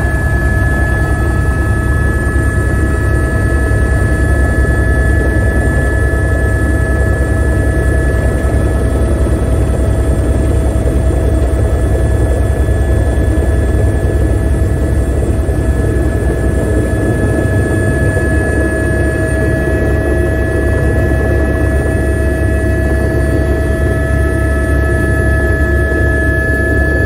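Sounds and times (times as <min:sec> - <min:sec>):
helicopter rotor and turbine rumble: 0:00.0 - 0:27.0
turbine whine: 0:00.0 - 0:27.0.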